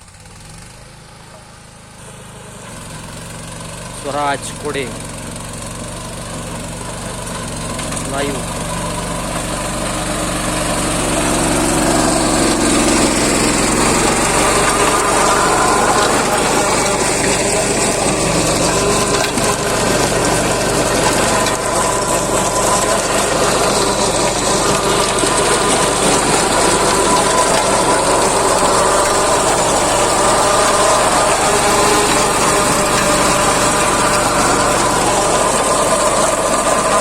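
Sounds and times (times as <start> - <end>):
mini tractor engine: 0.0 - 37.0
rotavator mechanical clatter: 3.4 - 37.0.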